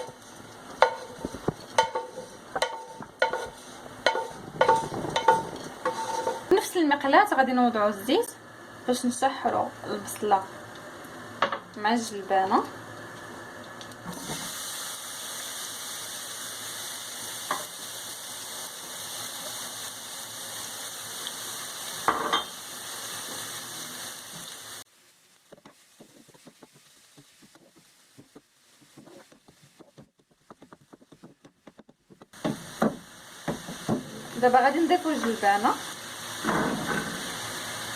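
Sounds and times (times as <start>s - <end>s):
onion sizzling in oil: 0.0s - 37.9s.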